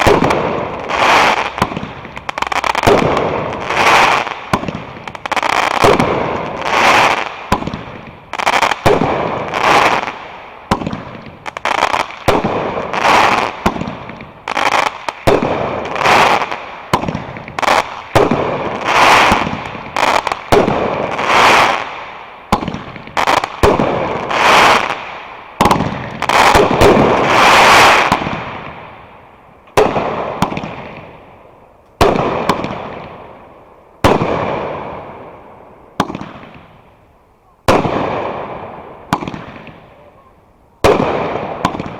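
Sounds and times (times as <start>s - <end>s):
fireworks banging and crackling: 0.0s - 41.9s.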